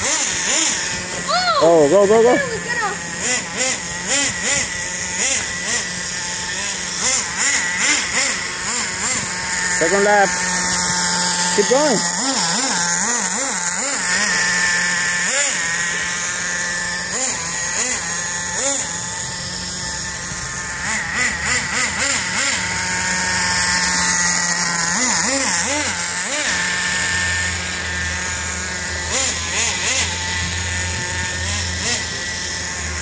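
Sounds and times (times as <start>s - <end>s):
steady hum: 0.0s - 33.0s
toy truck motor whining: 0.0s - 33.0s.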